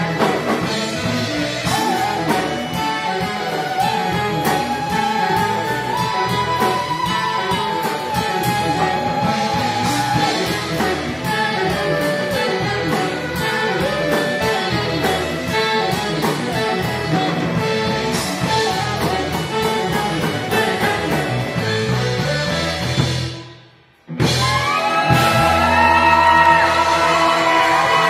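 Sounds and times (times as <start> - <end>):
drum kit beat: 0.0 - 23.5, 24.1 - 28.0
saxophones: 0.0 - 23.6
electric guitars: 0.0 - 28.0.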